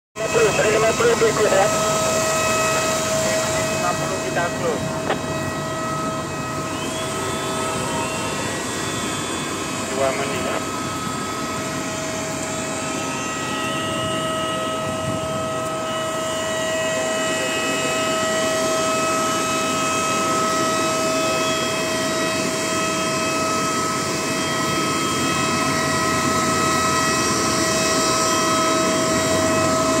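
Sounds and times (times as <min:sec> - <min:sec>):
jet turbine whine: 0:00.2 - 0:30.0.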